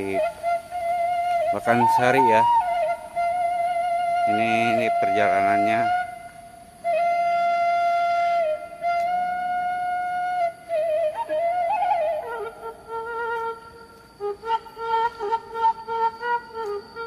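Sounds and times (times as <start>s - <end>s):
bamboo flute melody: 0.0s - 17.0s.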